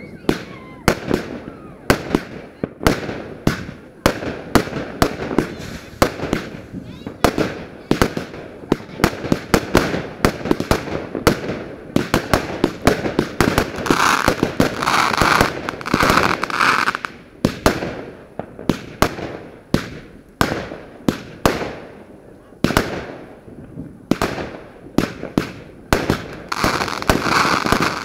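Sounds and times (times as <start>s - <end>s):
fireworks bangs echoing: 0.0s - 28.0s
fireworks hissing crackle: 0.0s - 28.0s.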